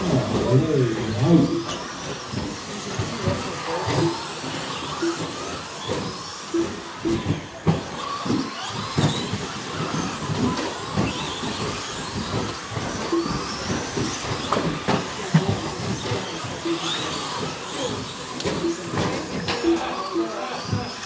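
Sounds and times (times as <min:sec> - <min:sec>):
electric motors whining: 0:00.0 - 0:21.0
sharp clacks of toy trucks: 0:00.0 - 0:21.0.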